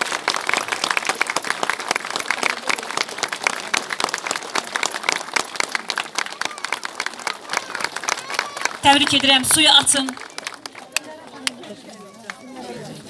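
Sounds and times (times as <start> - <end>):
crowd applauding: 0.0 - 12.5.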